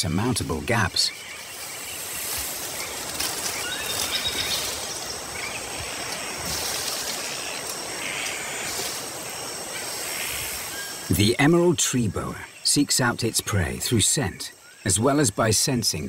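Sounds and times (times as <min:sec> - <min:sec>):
high-pitched insect hiss and drone: 0:00.2 - 0:16.0.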